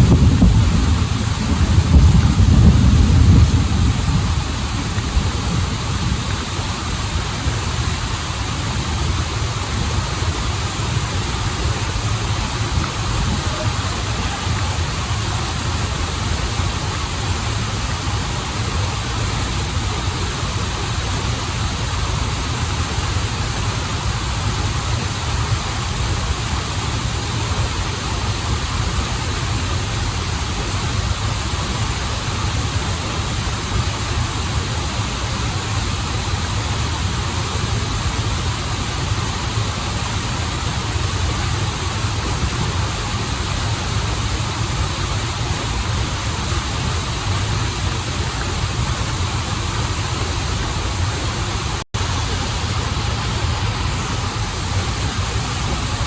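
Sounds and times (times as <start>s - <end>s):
waterfall rushing with low rumble: 0.0s - 56.0s.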